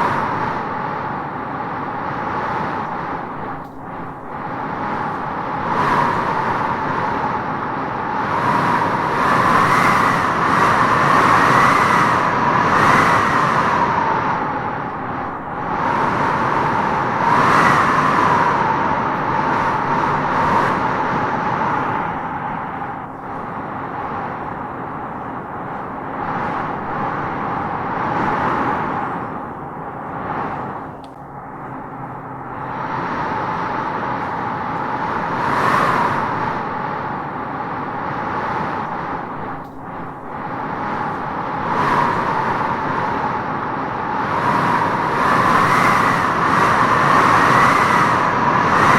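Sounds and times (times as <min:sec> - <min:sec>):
strong wind howling through trees: 0:00.0 - 0:48.9.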